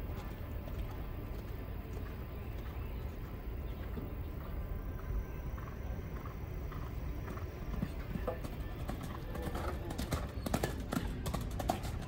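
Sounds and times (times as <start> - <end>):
faint open-air background noise: 0.0 - 12.0.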